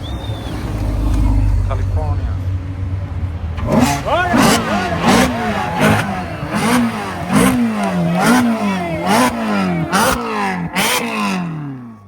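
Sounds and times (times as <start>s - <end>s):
exhaust cracks: 0.0s - 12.0s
sports car engine revving: 0.0s - 12.0s.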